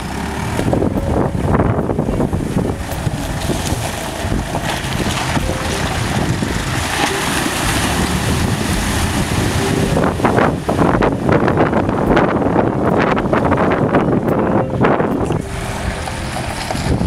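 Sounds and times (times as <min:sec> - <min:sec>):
car engine rumbling: 0:00.0 - 0:17.0
water splashing around wheels: 0:00.0 - 0:17.0
wind buffeting microphone: 0:00.0 - 0:17.0.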